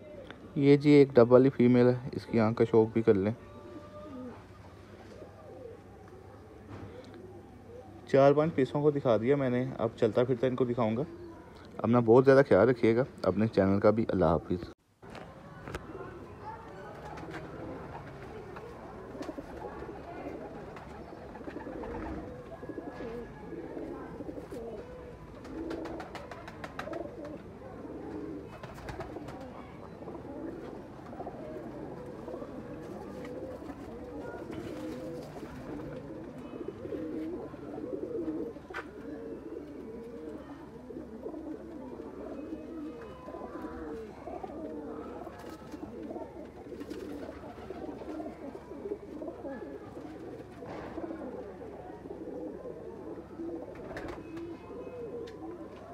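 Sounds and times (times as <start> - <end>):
pigeons cooing: 3.4 - 11.8, 15.9 - 55.9.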